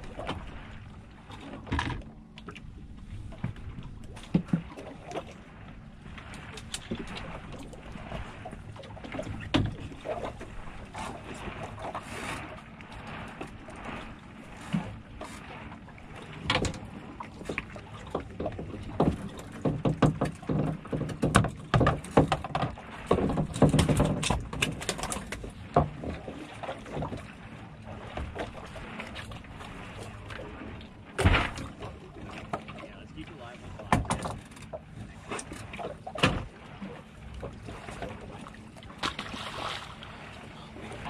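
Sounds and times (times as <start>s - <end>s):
water lapping against hull: 0.0s - 41.0s.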